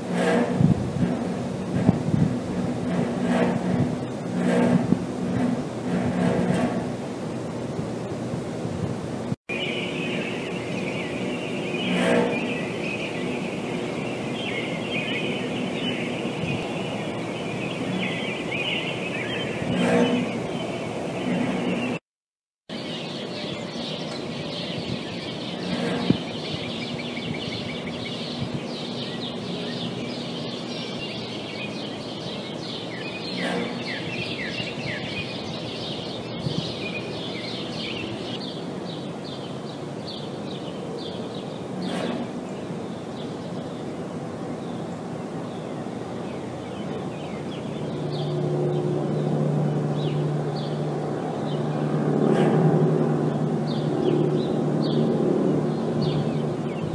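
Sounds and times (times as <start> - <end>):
outdoor background noise: 0.0 - 22.0, 22.7 - 56.9
birds chirping: 9.5 - 22.0, 22.7 - 56.9.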